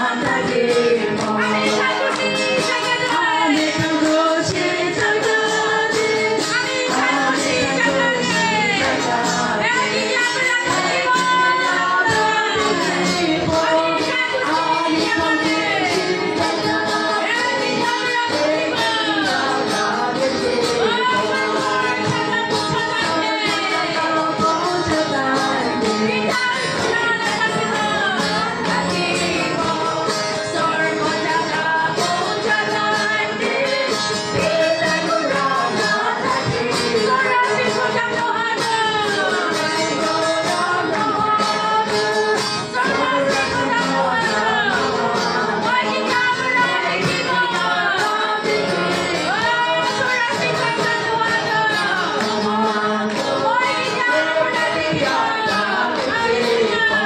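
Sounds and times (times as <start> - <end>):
group singing a worship song: 0.0 - 57.0.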